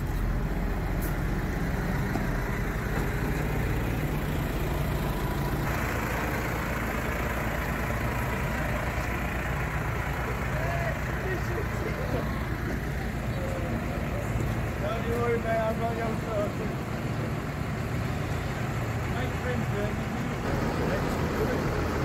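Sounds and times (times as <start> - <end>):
diesel tractor engine idling: 0.0 - 22.0.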